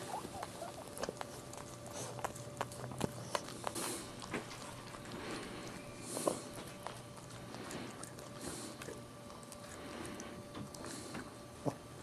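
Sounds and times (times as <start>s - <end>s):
dog licking puppy: 0.0s - 11.8s.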